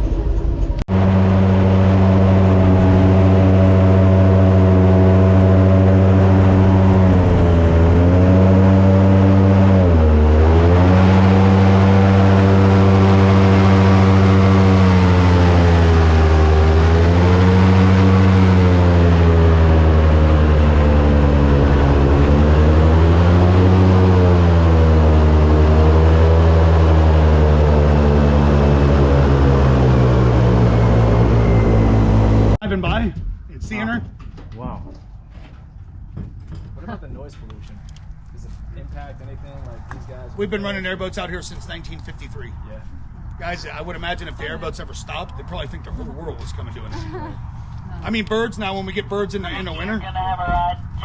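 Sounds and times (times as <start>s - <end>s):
airboat engine and propeller: 0.0s - 32.7s, 37.8s - 51.0s.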